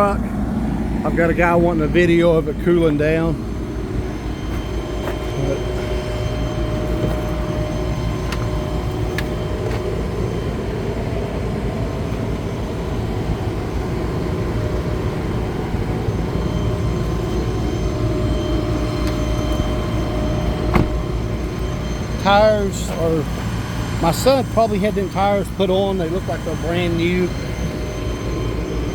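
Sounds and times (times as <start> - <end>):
refrigeration unit droning: 0.0 - 28.9.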